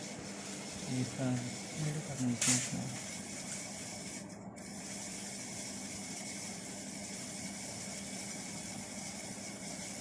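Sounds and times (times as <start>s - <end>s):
machine humming with hiss: 0.0s - 10.0s.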